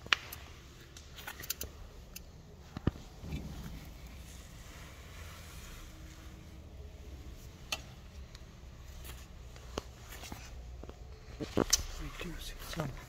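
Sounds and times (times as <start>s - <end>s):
steady low rumble: 0.4s - 13.0s.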